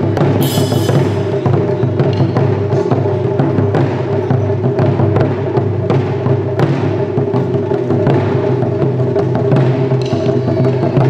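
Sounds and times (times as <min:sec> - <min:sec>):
taiko drum strokes: 0:00.0 - 0:11.0.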